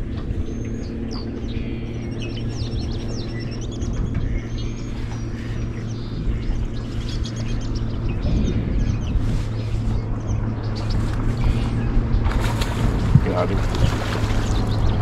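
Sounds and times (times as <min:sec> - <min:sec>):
low wind rumble: 0:00.0 - 0:15.0
small birds chirping: 0:00.0 - 0:15.0
steady low hum: 0:00.0 - 0:15.0.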